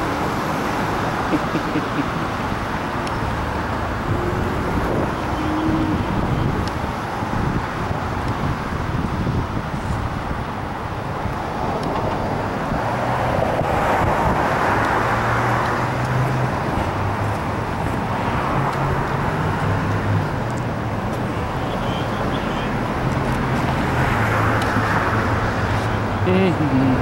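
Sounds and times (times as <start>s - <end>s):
vehicle passing: 0.0s - 8.0s, 11.4s - 21.6s, 22.7s - 27.0s
road traffic: 0.0s - 27.0s.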